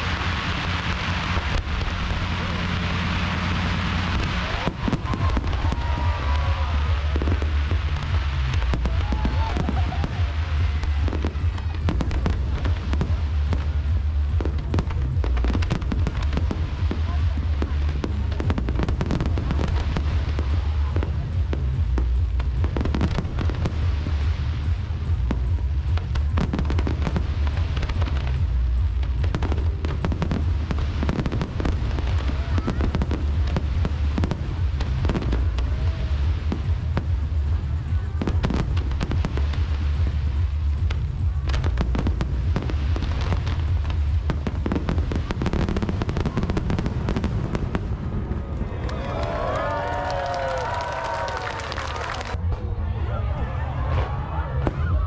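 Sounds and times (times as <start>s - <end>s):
deep rumble: 0.0s - 55.0s
fireworks bangs and crackles: 0.0s - 55.0s.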